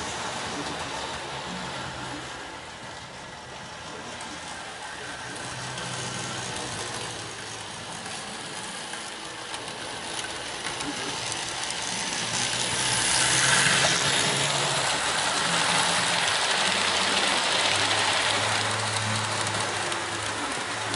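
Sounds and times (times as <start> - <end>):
model train running on track: 0.0 - 20.9.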